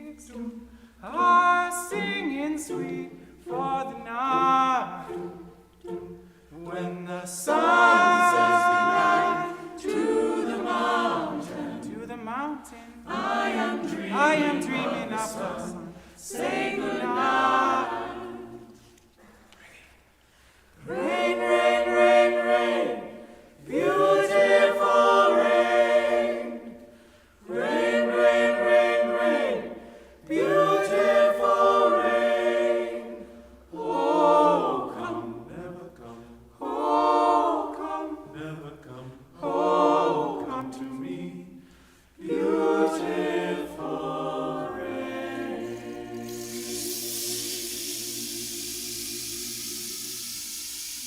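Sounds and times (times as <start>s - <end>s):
vocal ensemble singing a cappella: 0.0s - 51.0s.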